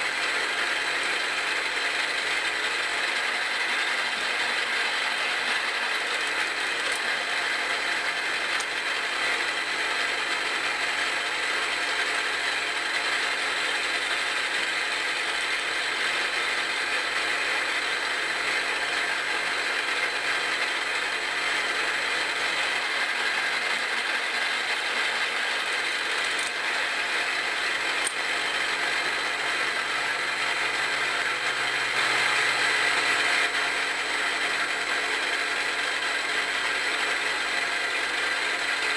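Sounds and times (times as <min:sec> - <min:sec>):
tapping head gearing whir: 0:00.0 - 0:38.9.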